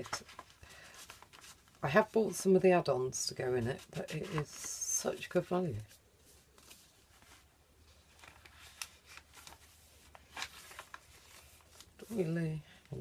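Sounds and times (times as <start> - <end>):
paper pages rustling: 0.0 - 2.6, 3.6 - 13.0.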